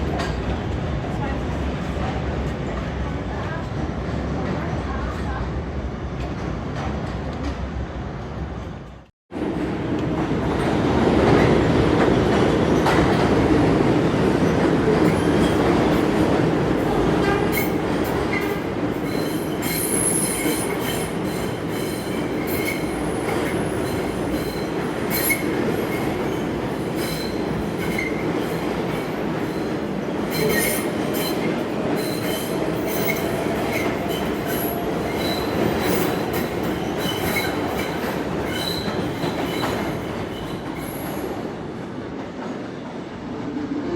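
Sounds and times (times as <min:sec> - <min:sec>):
subway train rumbling on track: 0:00.0 - 0:43.9.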